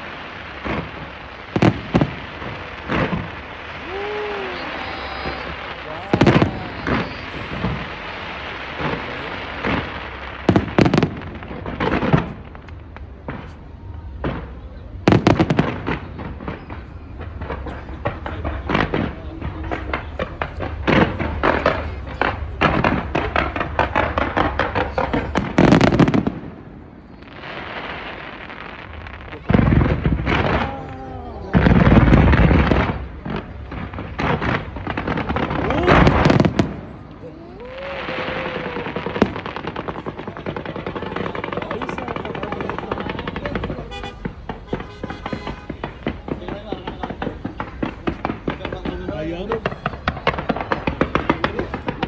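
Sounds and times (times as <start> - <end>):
background rumble: 0.0 - 52.0
fireworks bursting: 0.0 - 52.0.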